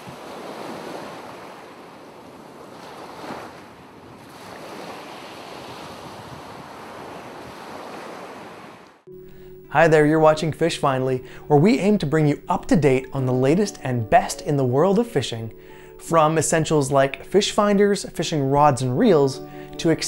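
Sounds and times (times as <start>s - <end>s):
ocean waves washing: 0.0s - 20.0s.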